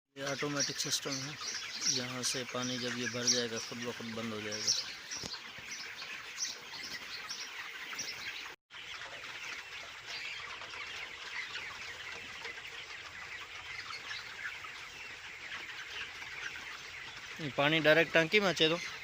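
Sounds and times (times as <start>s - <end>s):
chickens clucking and peeping: 0.2s - 19.0s.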